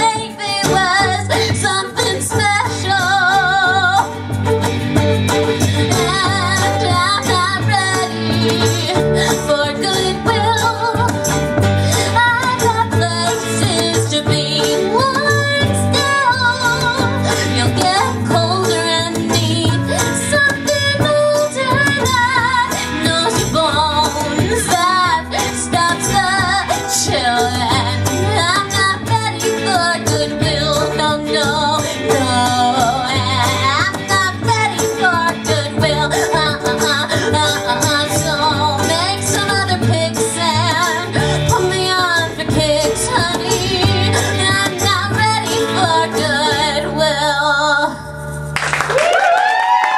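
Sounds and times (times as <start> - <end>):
woman singing with vibrato: 0.0 - 48.4
band playing folk-pop: 0.0 - 49.9.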